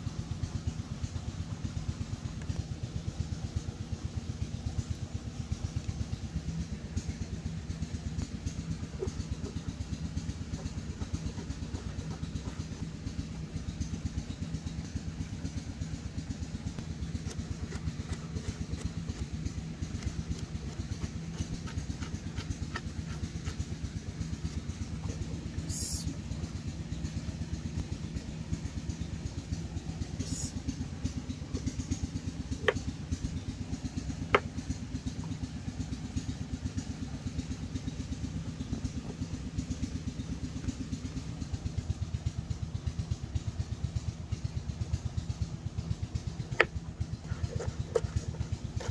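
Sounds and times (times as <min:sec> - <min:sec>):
engine idling drone: 0:00.0 - 0:48.9.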